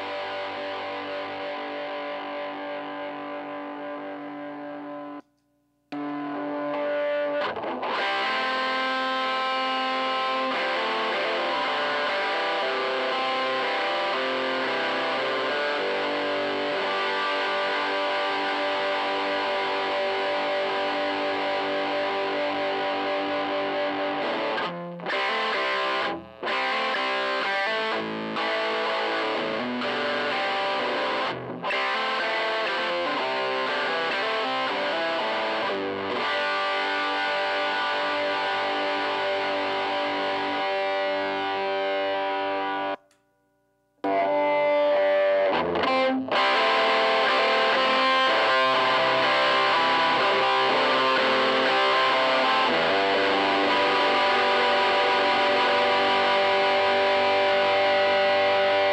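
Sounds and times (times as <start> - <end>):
distorted electric guitar: 0.0 - 5.3, 5.9 - 43.2, 44.0 - 58.9.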